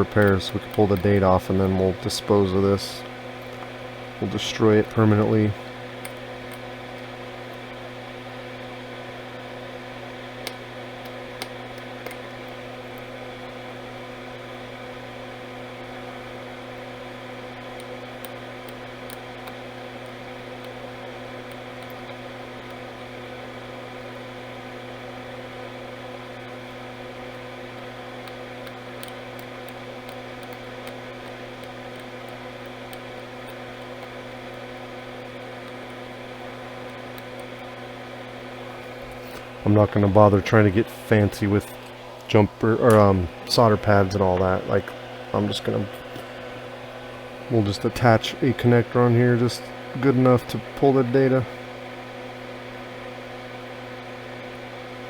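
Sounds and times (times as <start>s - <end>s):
electrical hum and buzz: 0.0s - 55.0s.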